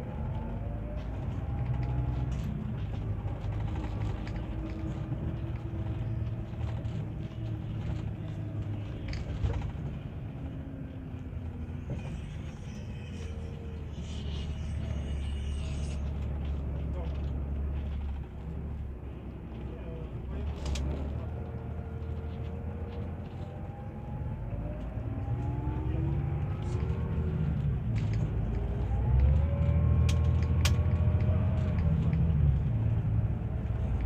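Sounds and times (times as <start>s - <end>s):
coach diesel engine rumble: 0.0s - 34.0s.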